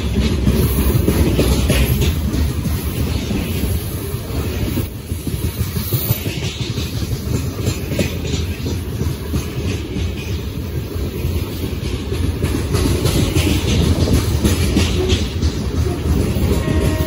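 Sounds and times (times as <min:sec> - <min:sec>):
rumble of train wheels on rail: 0:00.0 - 0:17.0
wheels clattering over rail joints: 0:00.0 - 0:17.0.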